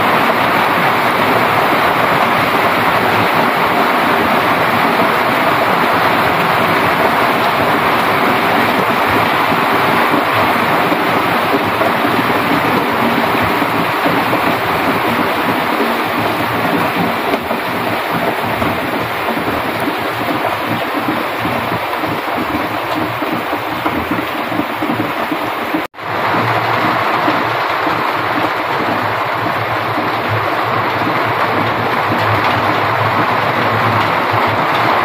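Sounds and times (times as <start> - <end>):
heavy rain on leaves: 0.0 - 35.0.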